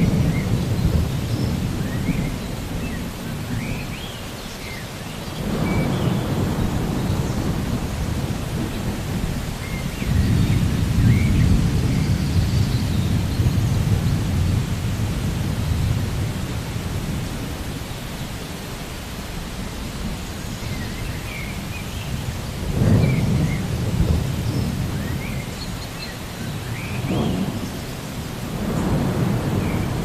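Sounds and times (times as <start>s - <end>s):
rolling thunder: 0.0s - 3.9s, 5.3s - 17.8s, 20.8s - 25.8s, 26.4s - 30.0s
steady rain: 0.0s - 30.0s.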